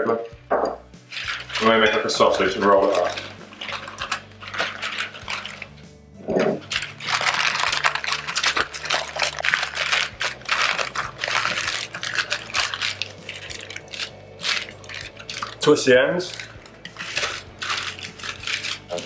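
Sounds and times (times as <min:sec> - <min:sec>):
quiet background music: 0:00.0 - 0:19.0
paper crinkling and rustling: 0:01.1 - 0:05.8, 0:06.4 - 0:19.0.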